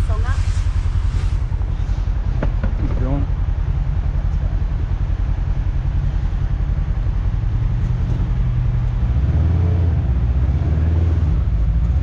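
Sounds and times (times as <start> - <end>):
side-by-side engine running: 0.0 - 12.0.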